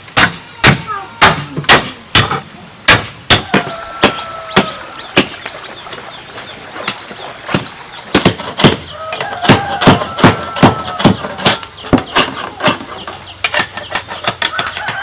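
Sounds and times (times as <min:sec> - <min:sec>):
hammer knocking on bamboo: 0:00.2 - 0:05.4, 0:06.9 - 0:15.0.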